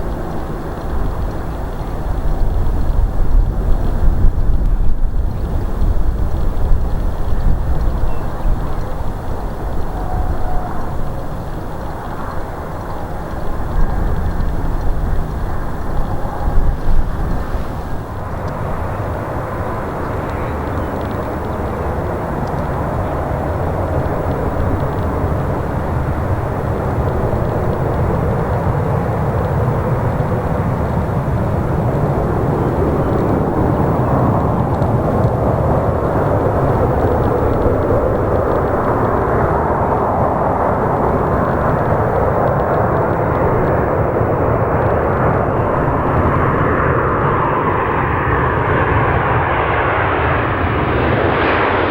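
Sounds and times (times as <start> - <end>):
jet airliner rumble: 0.0 - 51.9.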